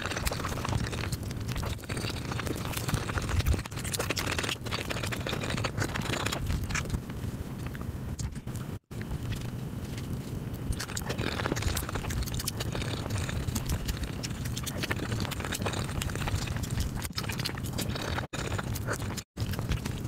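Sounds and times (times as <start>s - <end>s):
chewing flaky flatbread: 0.0s - 20.0s.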